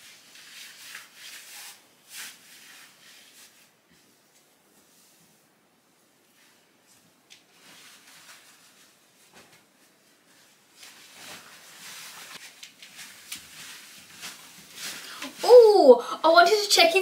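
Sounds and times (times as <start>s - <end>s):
faint rustling: 0.3s - 15.9s.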